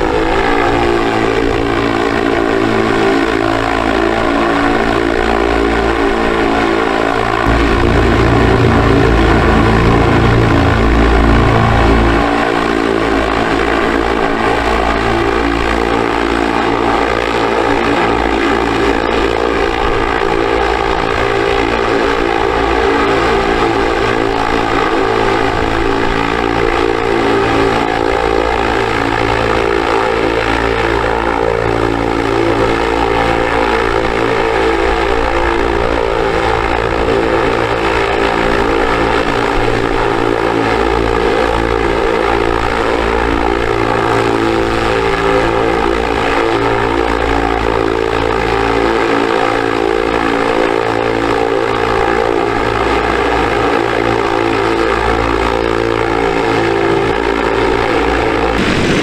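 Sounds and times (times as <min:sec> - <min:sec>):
drone propellers humming: 0:00.0 - 0:59.0.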